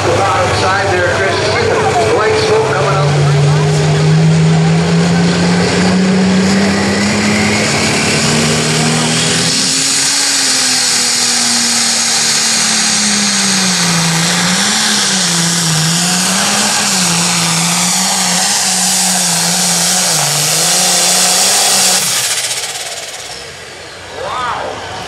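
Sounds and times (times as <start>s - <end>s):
diesel tractor engine under load: 0.0s - 24.2s.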